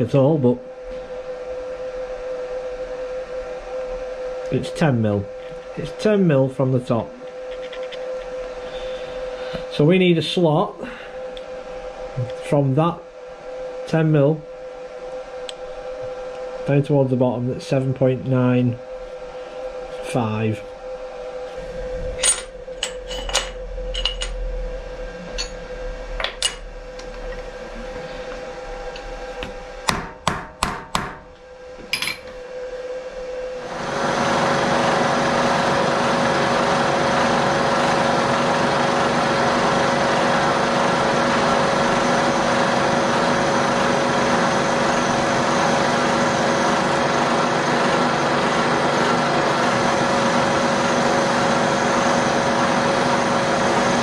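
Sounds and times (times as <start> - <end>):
milling machine spindle whine: 0.0 - 30.1, 31.3 - 54.0.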